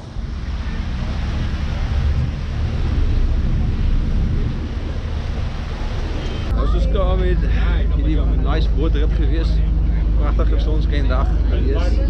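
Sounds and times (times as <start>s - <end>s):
boat engines rumbling: 0.0s - 12.0s
wind buffeting microphone: 0.0s - 12.0s.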